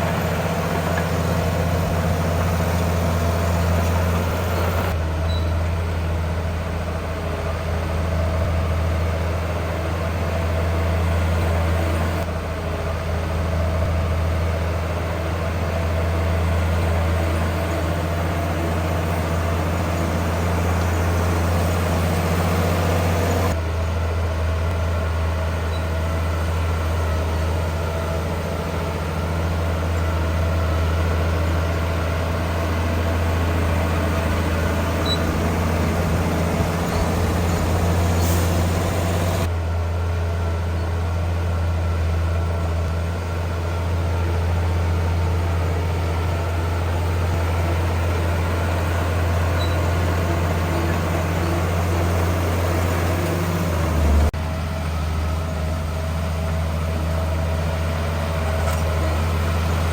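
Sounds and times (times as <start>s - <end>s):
heavy diesel machinery humming: 0.0s - 59.9s.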